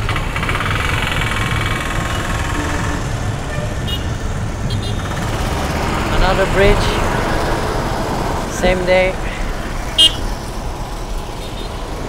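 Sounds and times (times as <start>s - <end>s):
busy road traffic: 0.0s - 12.0s
close engine buzzing: 0.0s - 12.0s.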